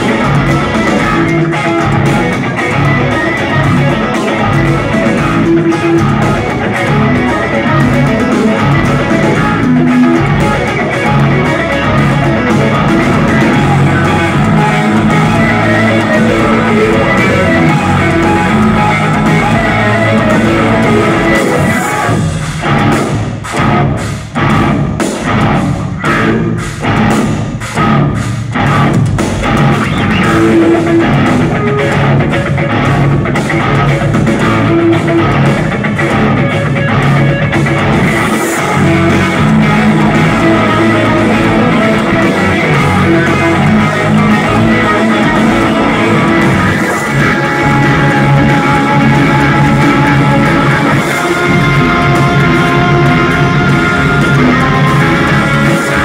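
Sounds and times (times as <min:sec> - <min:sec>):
loud metal band playing: 0:00.0 - 0:56.0.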